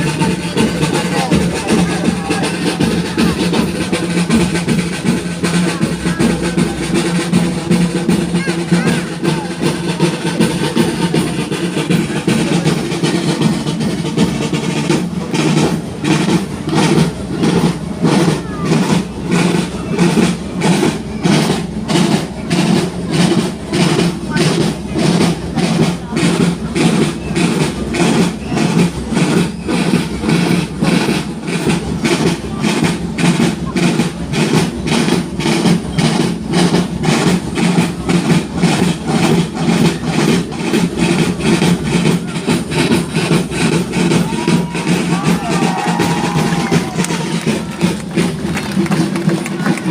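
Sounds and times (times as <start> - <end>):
crowd voices: 0.0 - 49.9
street drums playing: 0.0 - 49.9.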